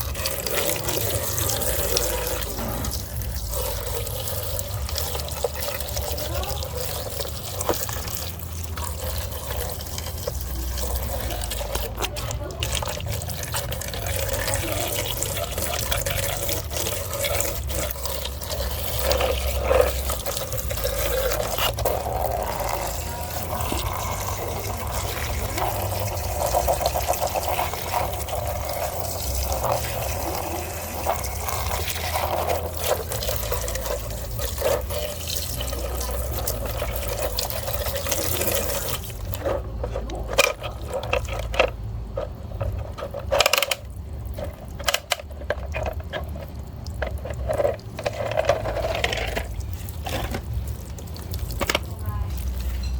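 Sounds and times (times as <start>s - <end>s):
running water splashing: 0.0s - 52.9s.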